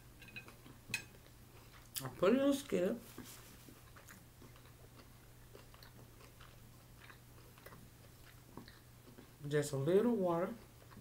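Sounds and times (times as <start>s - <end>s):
low steady hum: 0.0s - 11.0s
person chewing food: 0.2s - 2.2s, 3.0s - 9.5s, 10.5s - 11.0s.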